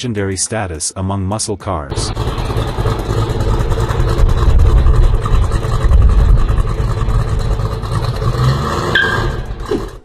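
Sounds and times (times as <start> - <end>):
car engine revving with deep rumble: 1.9 - 10.0.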